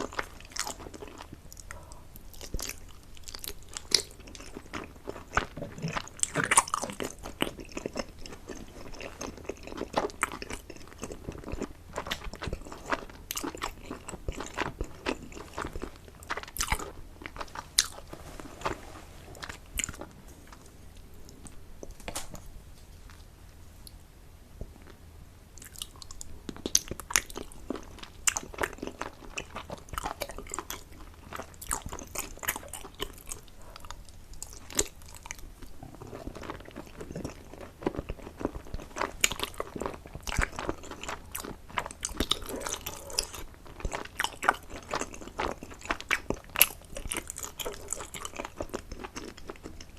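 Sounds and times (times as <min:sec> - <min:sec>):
person chewing and biting: 0:00.0 - 0:18.8, 0:25.6 - 0:49.9.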